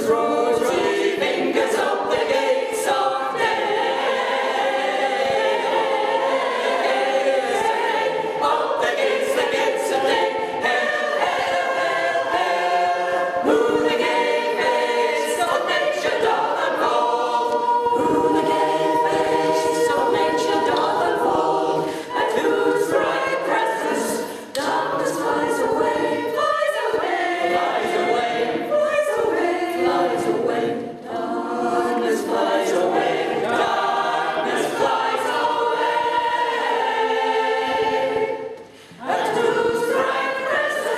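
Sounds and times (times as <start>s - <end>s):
mixed choir singing unaccompanied: 0.0s - 40.9s.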